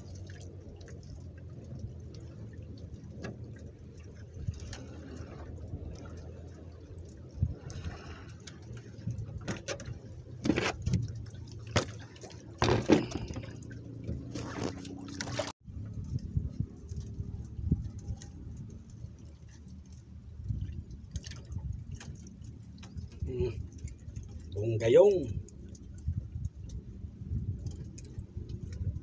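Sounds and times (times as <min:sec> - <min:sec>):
knocks and splashes: 0:00.0 - 0:26.8
water lapping against boat hull: 0:00.0 - 0:29.0.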